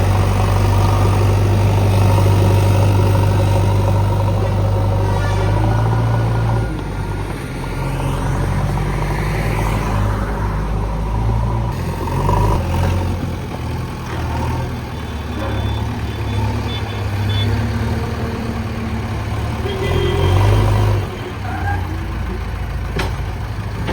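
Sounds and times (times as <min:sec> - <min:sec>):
diesel engine under load: 0:00.0 - 0:23.9.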